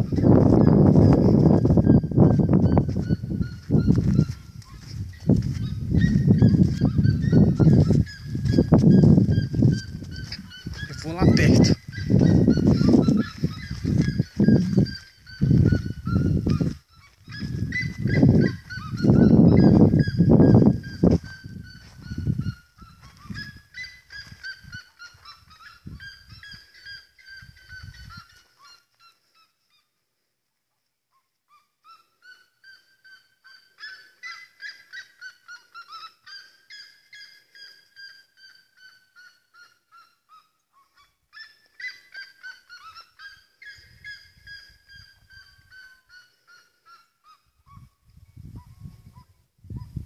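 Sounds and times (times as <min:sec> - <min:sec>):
birds yelping calls: 0:00.0 - 0:29.8, 0:31.5 - 0:49.9.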